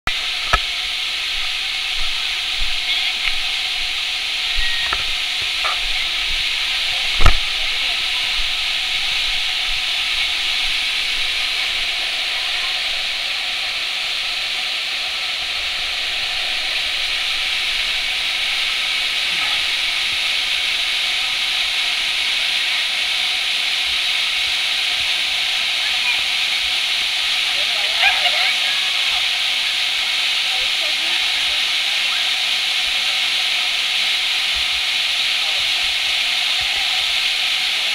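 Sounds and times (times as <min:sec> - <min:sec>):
waterfall hiss: 0:00.1 - 0:37.9.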